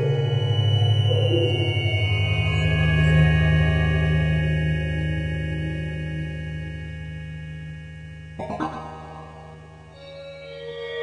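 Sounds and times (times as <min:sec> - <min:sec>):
low synthesizer drone: 0:00.0 - 0:11.0.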